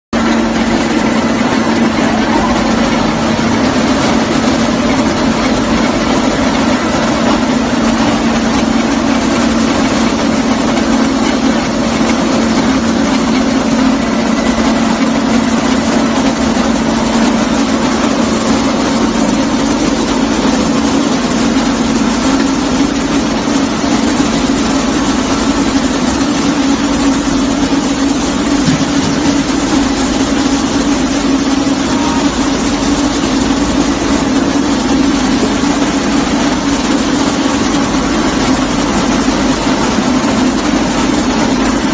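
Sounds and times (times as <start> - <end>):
milling machines droning: 0.2 - 41.9.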